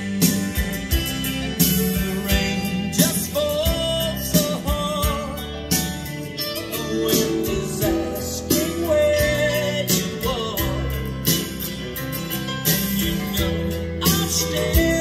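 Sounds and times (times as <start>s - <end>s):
song with singing over a beat: 0.0s - 15.0s.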